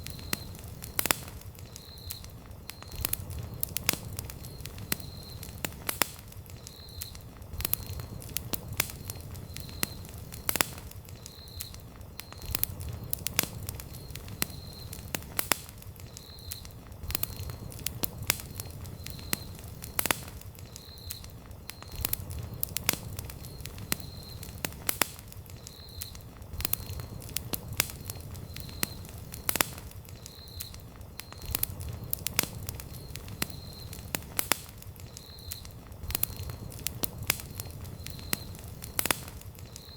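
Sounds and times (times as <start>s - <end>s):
campfire crackling and popping: 0.0s - 39.9s
low fire rumble: 0.0s - 39.9s.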